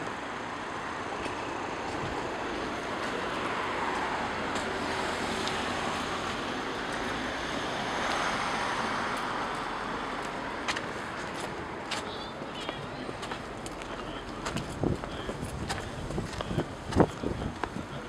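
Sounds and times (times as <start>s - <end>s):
passing vehicles hiss: 0.0s - 18.0s.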